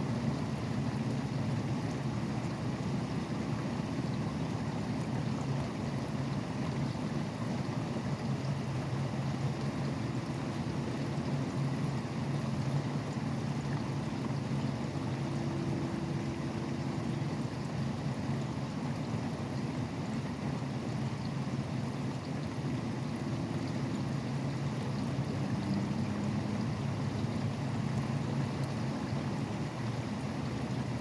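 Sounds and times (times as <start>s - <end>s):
highway traffic hum: 0.0s - 31.0s.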